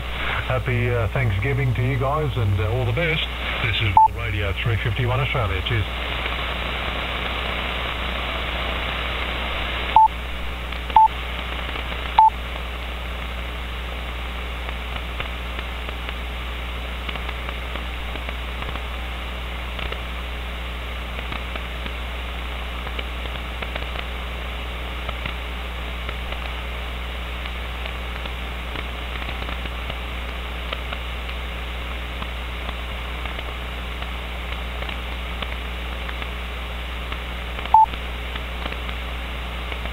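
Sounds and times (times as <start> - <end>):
radio receiver hiss: 0.0 - 39.9.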